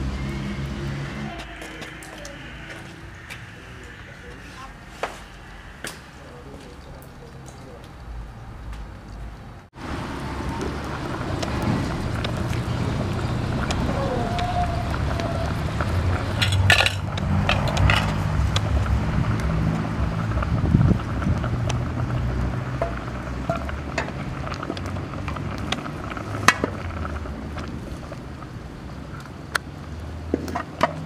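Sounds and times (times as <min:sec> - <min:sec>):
wood fire crackles: 0:00.0 - 0:31.0.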